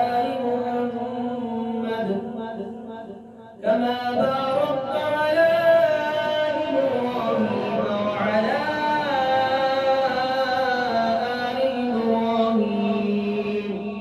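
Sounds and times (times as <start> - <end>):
vocal chanting: 0.0 - 14.0.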